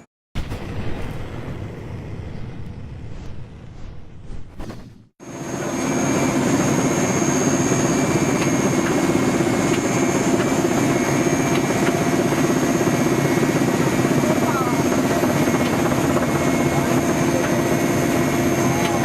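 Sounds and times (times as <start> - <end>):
helicopter turbine and rotor: 0.6 - 19.0.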